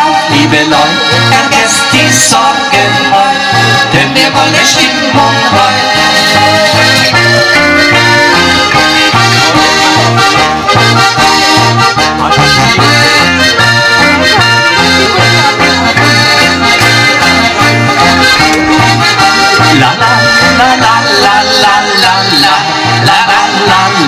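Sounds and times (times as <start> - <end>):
electric guitar: 0.0 - 24.0
live band playing dance music: 0.0 - 24.0
steady bass beat: 0.0 - 24.0
strummed acoustic guitar: 0.2 - 24.0.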